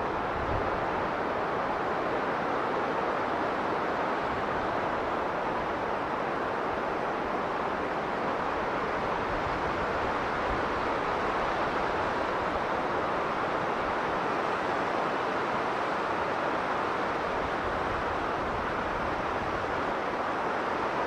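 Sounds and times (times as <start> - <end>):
blizzard wind blowing: 0.0 - 21.0.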